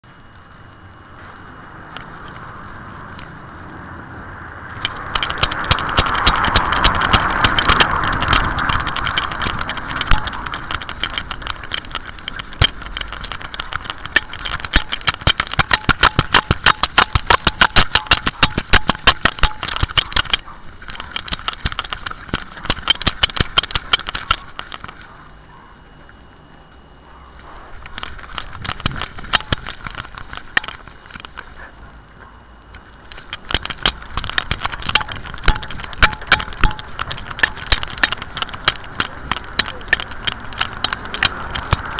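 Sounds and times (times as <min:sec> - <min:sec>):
camera rattling and knocking: 0:04.6 - 0:25.9, 0:27.5 - 0:31.7, 0:32.5 - 0:41.9.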